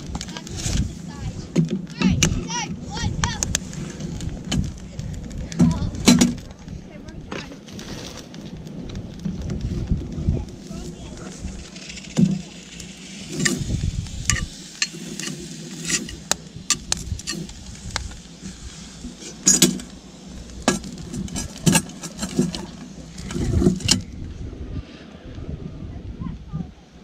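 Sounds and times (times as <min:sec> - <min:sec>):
low rumbling bumps: 0:00.0 - 0:26.8.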